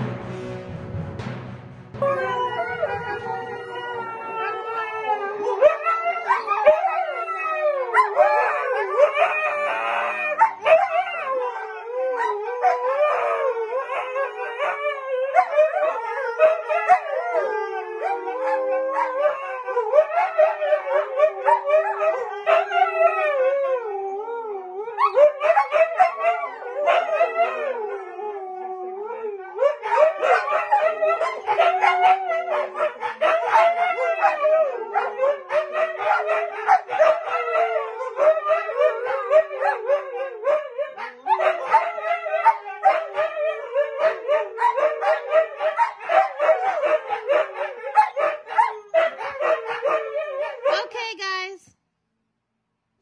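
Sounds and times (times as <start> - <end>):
dogs howling together: 2.0 - 50.7.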